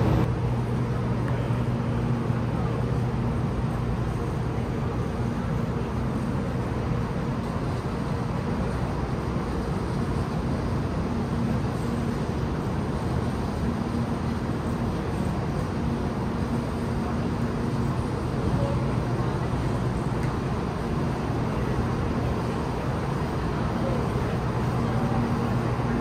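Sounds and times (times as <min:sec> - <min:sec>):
machine hum and rumble: 0:00.0 - 0:26.0.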